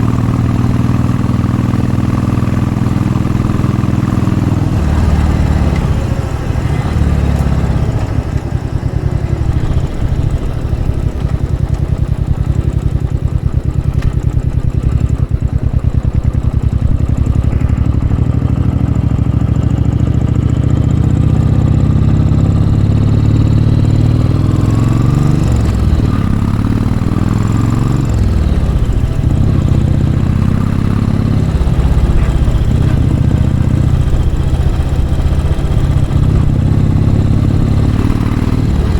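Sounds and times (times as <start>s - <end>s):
motorcycle engine pulling uphill: 0.0s - 38.9s.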